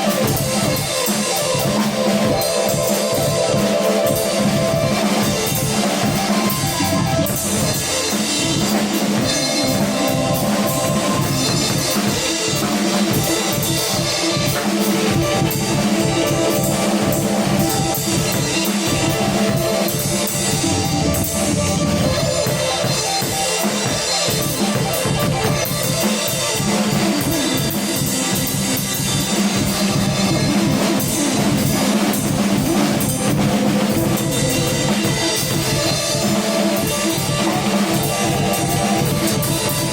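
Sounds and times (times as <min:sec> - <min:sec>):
synth-like melodic notes: 0:00.0 - 0:27.0, 0:30.1 - 0:39.9
drum kit beat: 0:00.0 - 0:39.9.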